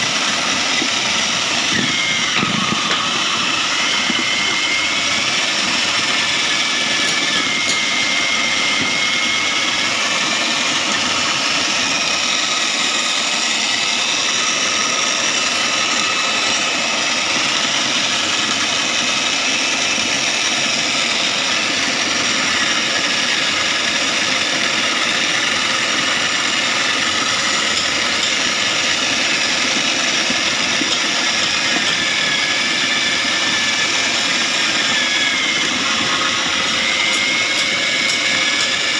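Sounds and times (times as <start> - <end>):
shredding machine motor whine: 0.0 - 38.9.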